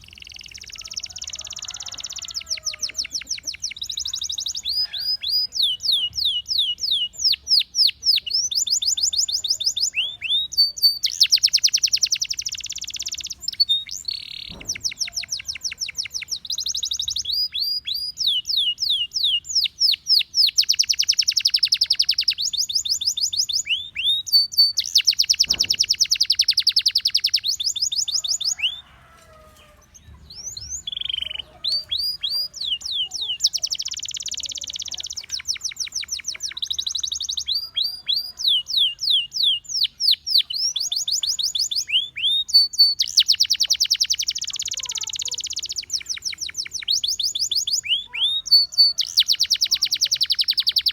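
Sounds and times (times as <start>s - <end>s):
canary singing with trills: 0.0s - 50.9s.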